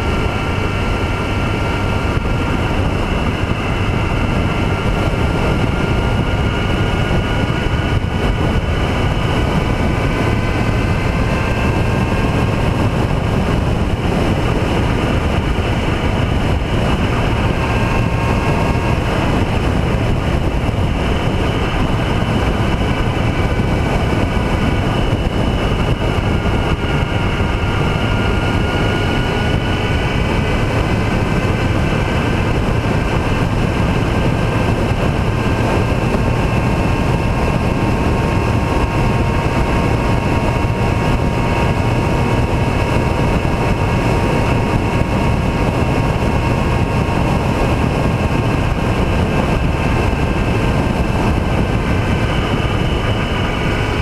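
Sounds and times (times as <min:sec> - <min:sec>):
motorcycle engine with whine: 0:00.0 - 0:54.0
wind rushing on microphone: 0:00.0 - 0:54.0.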